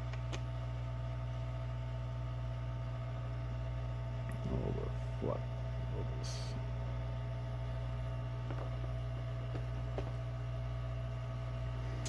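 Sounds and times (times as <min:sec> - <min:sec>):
electrical equipment humming: 0:00.0 - 0:12.0.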